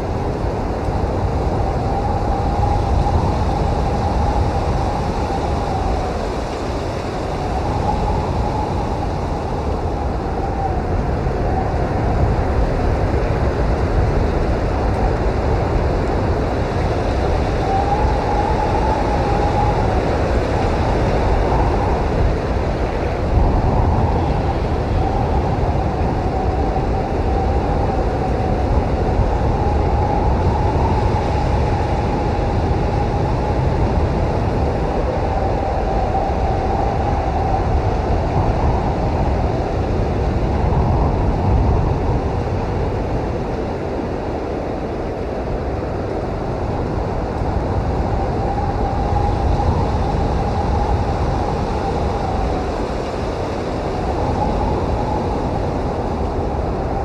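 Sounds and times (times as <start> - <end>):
blizzard wind rushing: 0.0 - 57.0
whistling wind howl: 0.0 - 57.0.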